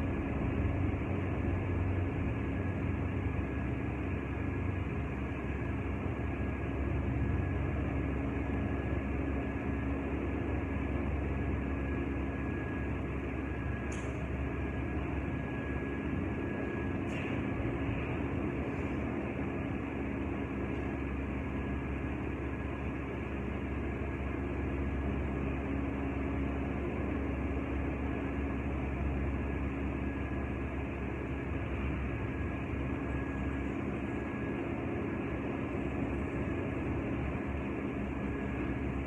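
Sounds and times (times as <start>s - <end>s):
large fan humming: 0.0s - 39.0s.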